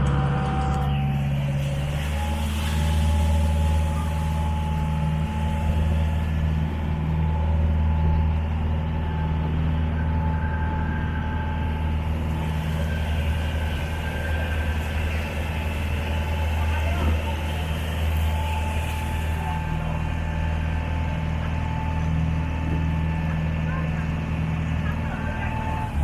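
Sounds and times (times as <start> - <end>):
ferry engine droning: 0.0 - 26.0.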